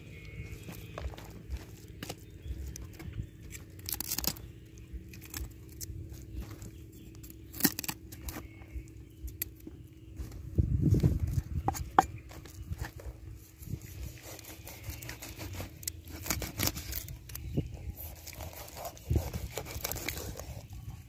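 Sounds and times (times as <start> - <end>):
cauliflower florets in wicker basket: 0.0 - 21.0
faint low hum: 0.0 - 21.0.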